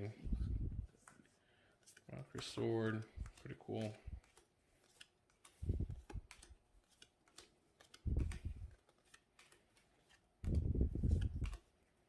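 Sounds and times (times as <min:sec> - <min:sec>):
card sleeves clicking and rustling: 0:00.9 - 0:12.0.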